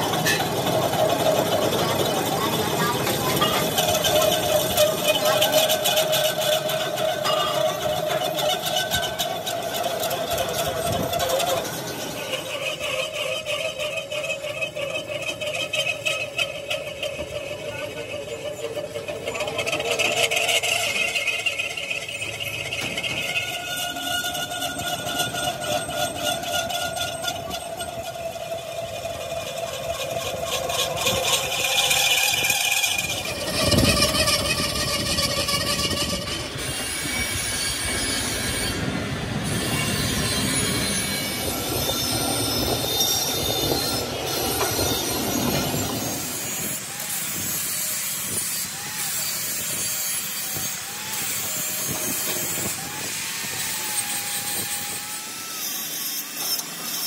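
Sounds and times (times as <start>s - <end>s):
lathe tool squealing on steel: 0.0s - 57.0s.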